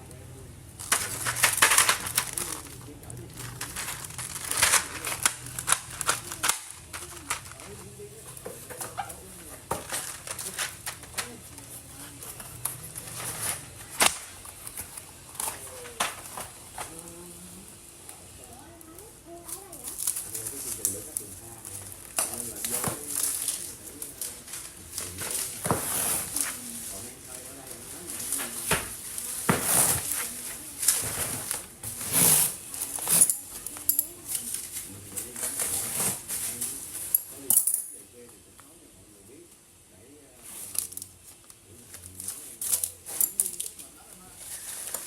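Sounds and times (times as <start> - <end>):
packaging rustling and crinkling: 0.7 - 37.1, 40.4 - 45.0.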